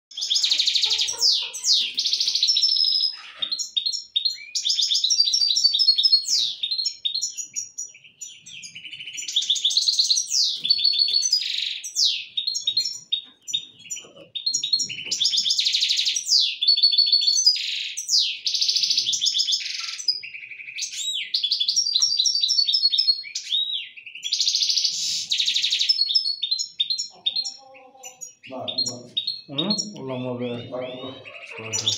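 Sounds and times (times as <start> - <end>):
finch twittering song: 0.1 - 31.9.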